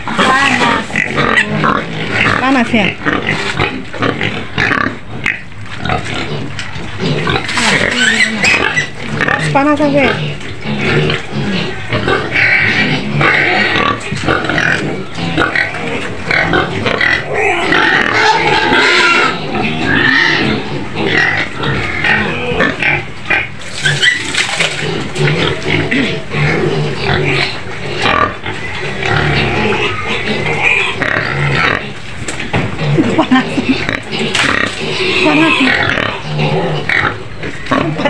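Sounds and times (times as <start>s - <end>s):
pigs squealing and grunting: 0.0s - 38.0s.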